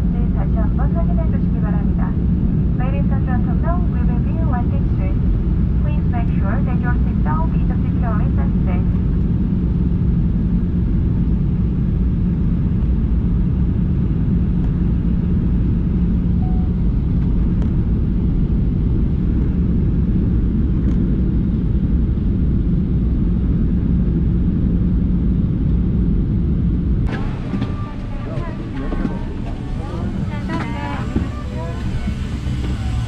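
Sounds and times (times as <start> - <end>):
airliner cabin engine rumble: 0.0 - 33.0.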